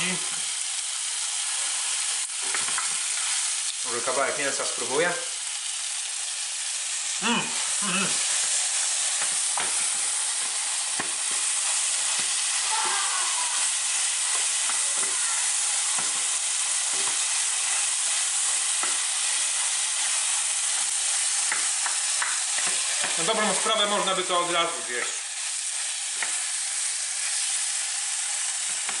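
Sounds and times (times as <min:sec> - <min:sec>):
beef sizzling in a frying pan: 0:00.0 - 0:29.0.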